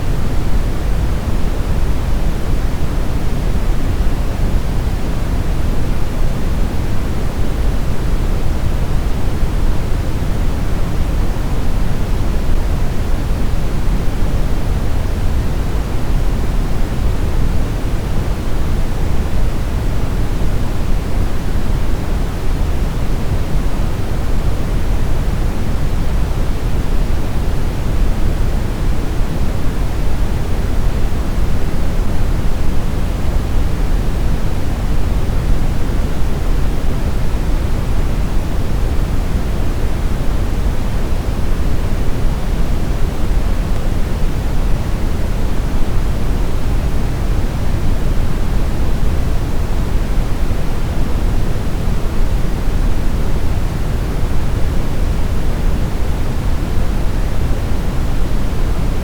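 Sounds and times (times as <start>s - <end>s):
brown noise rumbling hiss: 0.0s - 59.0s.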